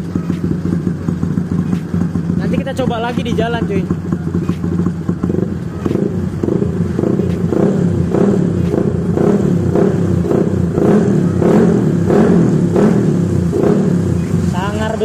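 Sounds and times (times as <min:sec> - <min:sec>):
scooter engine revving: 0:00.0 - 0:15.0.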